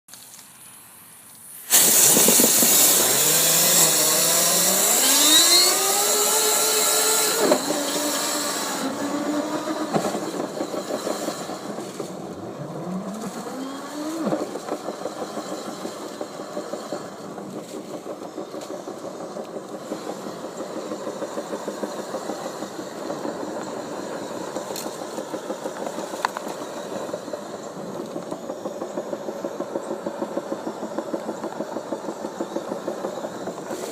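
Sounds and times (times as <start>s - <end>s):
motor spinning with rattling pulse: 1.8s - 33.9s.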